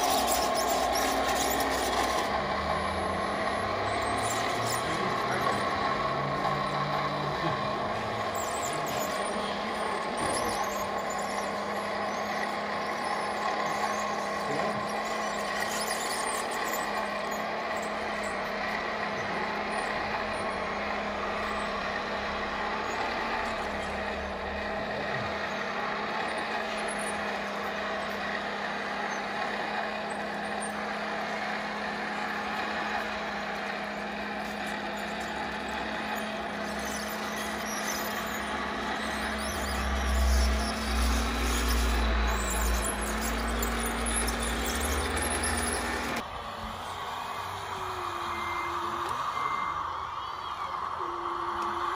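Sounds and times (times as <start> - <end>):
rc truck engine drone: 0.0 - 51.9.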